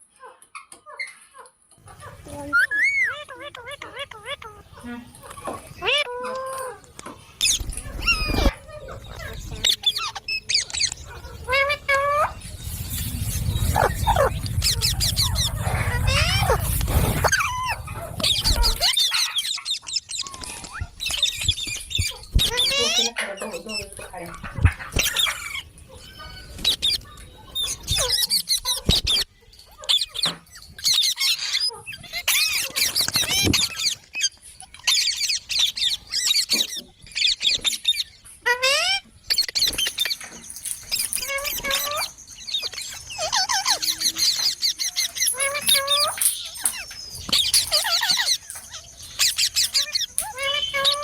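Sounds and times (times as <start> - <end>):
parrots chirping and squawking: 0.2 - 51.0.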